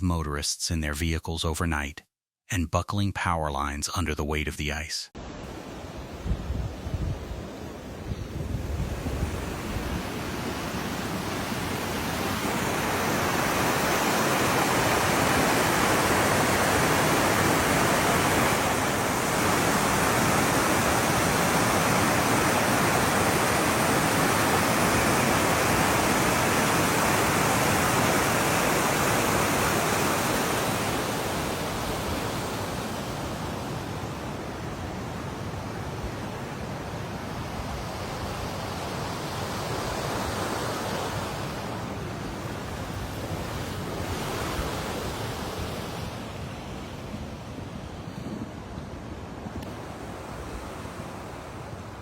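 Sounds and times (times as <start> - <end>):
rushing storm noise: 5.2 - 52.0.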